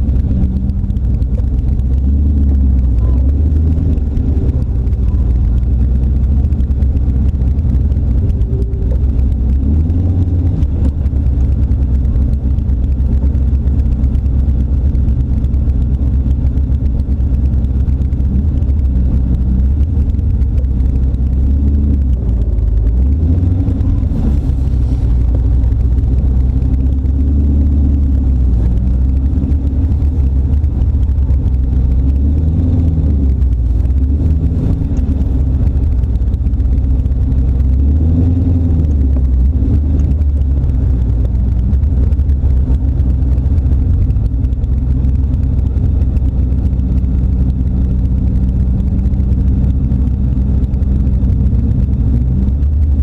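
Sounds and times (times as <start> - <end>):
car engine rumbling: 0.0 - 53.0.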